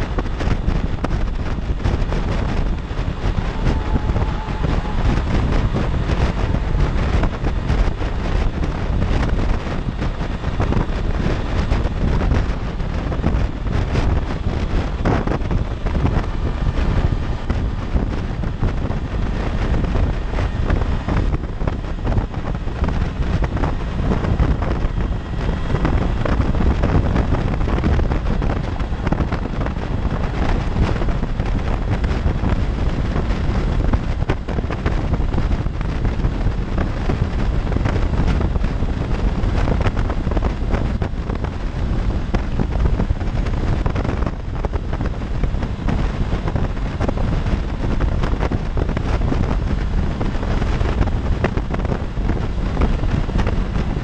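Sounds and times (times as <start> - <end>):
motorcycle running: 0.0 - 54.0
road noise: 0.0 - 54.0
wind rushing over microphone: 0.0 - 54.0.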